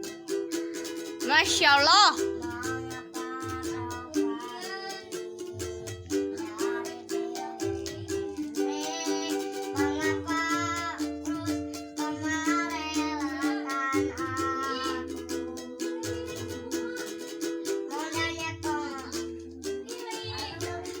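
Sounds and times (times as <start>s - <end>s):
child singing: 0.0s - 21.0s
ukulele strummed: 0.0s - 21.0s.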